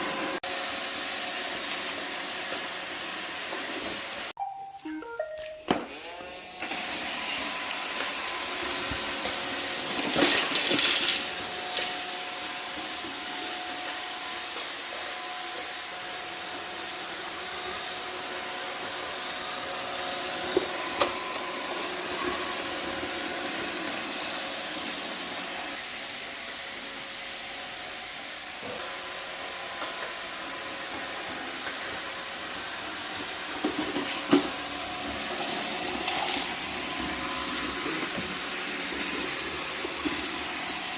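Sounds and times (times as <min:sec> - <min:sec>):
robot floor cleaner whirring: 0:05.9 - 0:40.9.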